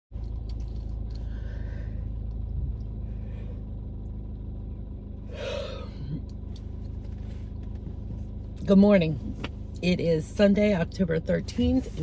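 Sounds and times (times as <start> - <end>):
steady hum: 0.2 - 12.0
vehicle driving rumble: 0.2 - 12.0.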